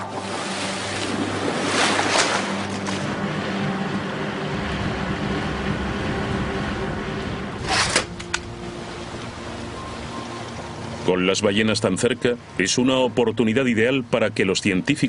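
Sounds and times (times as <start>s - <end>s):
outboard motorboat running: 0.0s - 14.5s
water splashing: 0.0s - 14.5s.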